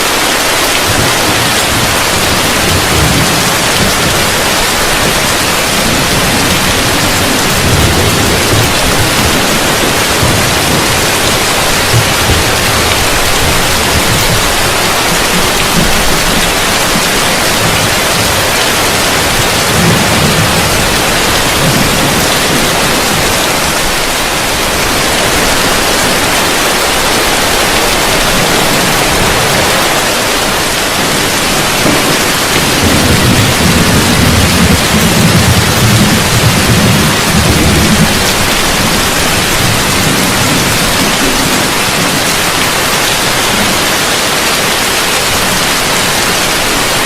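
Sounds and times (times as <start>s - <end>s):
heavy rain pouring: 0.0s - 47.0s
thunder rumble: 0.6s - 47.0s.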